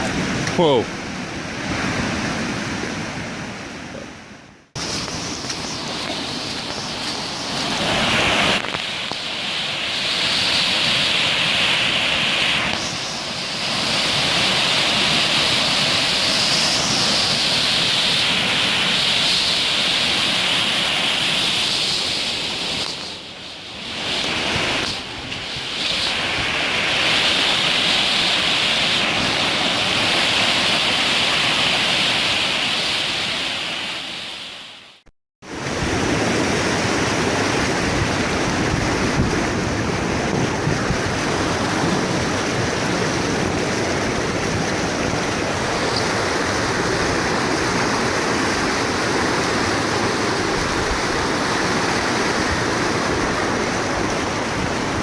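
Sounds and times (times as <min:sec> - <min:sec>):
floodwater rushing: 0:00.0 - 0:34.8, 0:35.4 - 0:55.0.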